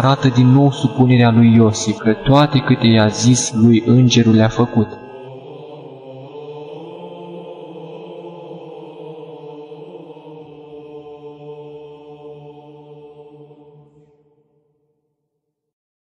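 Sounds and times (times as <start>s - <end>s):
sustained drone: 0.0s - 13.3s
slow held vocal chant: 0.0s - 14.6s.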